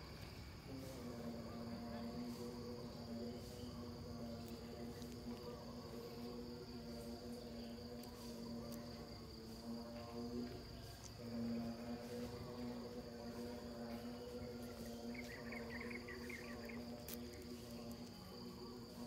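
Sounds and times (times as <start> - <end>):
faint low hum: 0.0 - 19.0
insects chirring in grass: 0.0 - 19.0.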